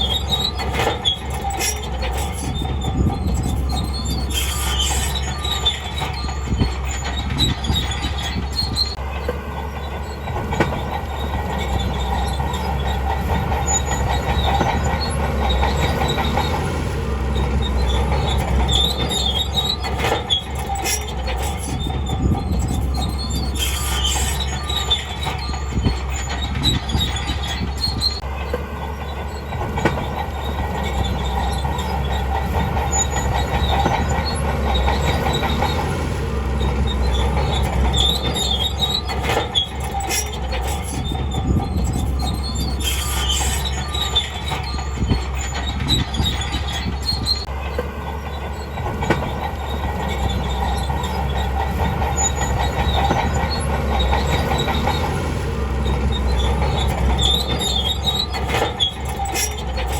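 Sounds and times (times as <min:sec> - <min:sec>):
bulldozer diesel engine hum: 0:00.0 - 0:59.9
steel tracks clanking and squealing: 0:00.0 - 0:59.9.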